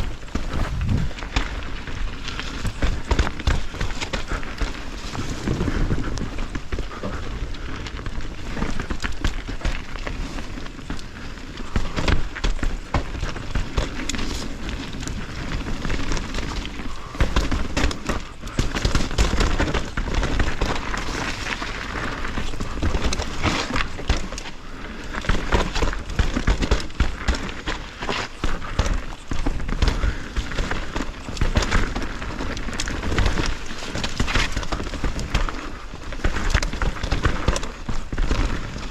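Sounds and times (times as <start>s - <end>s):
bike knocking and rattling: 0.0s - 38.9s
bike tyre and trail noise: 0.0s - 38.9s.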